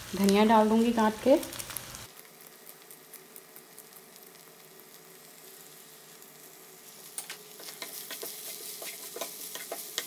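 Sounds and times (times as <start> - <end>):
meat and potatoes sizzling in a pan: 0.0 - 10.0.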